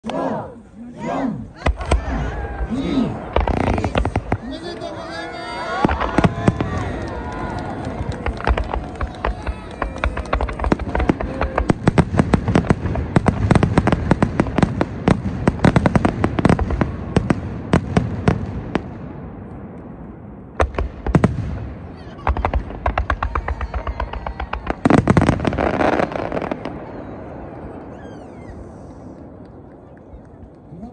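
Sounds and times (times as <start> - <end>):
firework crackling: 1.6 - 19.1, 20.6 - 30.8
firework bangs: 1.6 - 30.4.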